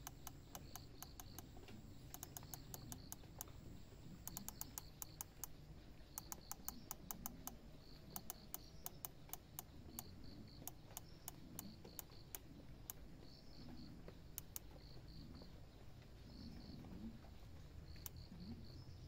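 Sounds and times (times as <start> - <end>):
faint sharp ticks: 0.0 - 19.0
insects chirping in pulsed bursts: 0.0 - 19.0.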